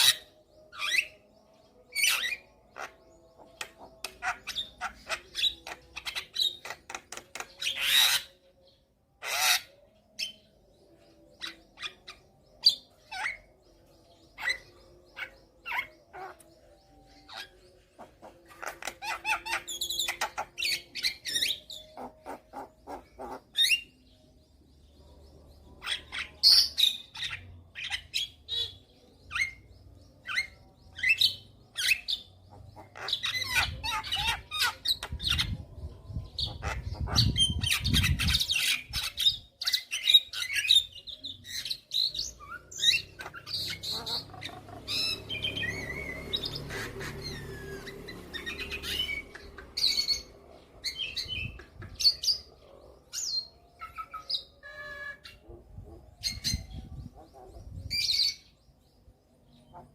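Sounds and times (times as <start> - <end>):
myna bird squawking and chirping: 0.0 - 8.6, 9.2 - 10.4, 14.4 - 24.0, 25.7 - 58.6.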